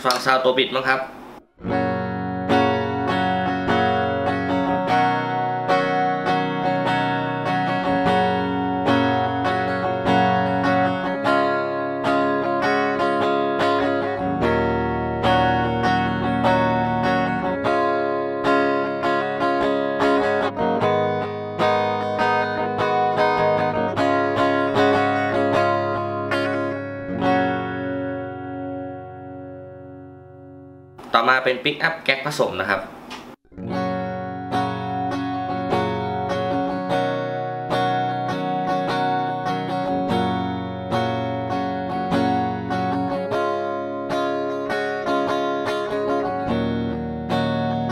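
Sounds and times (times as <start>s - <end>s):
clean electric guitar playing: 0.0s - 31.2s, 33.5s - 47.9s.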